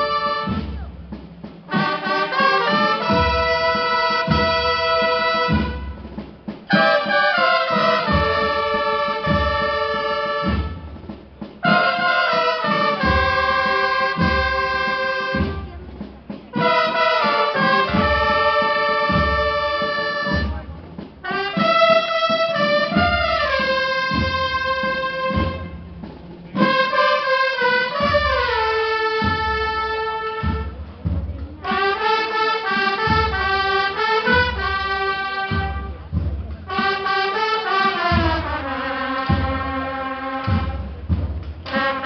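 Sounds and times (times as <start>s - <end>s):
brass chords: 0.0s - 42.0s
steady drum beat: 0.0s - 42.0s.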